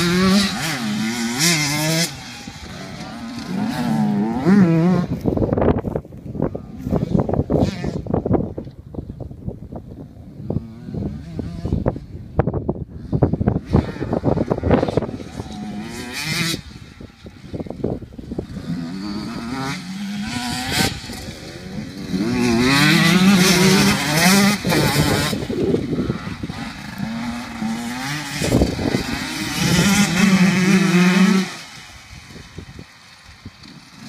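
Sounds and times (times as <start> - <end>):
motocross bikes revving: 0.0 - 8.3, 10.0 - 34.0.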